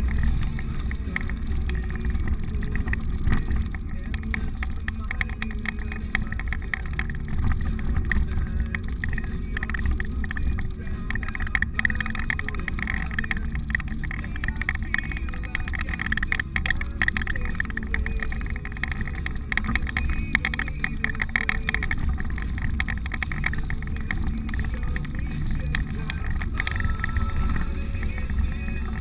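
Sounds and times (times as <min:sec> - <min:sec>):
engine and tyre rumble: 0:00.0 - 0:29.0.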